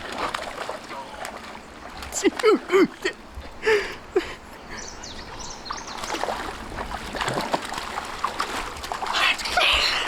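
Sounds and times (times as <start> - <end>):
shallow water splashing: 0.0 - 4.3, 5.7 - 10.0.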